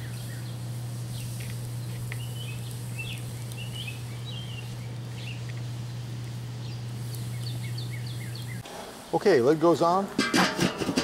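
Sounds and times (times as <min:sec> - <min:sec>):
steady low hum: 0:00.0 - 0:09.1
small birds chirping: 0:00.0 - 0:09.5.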